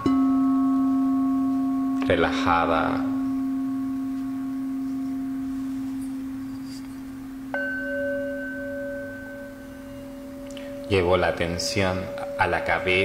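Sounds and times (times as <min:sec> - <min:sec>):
singing bowl struck with mallet: 0:00.0 - 0:06.9, 0:07.5 - 0:13.0
singing bowl low steady tone: 0:00.0 - 0:13.0.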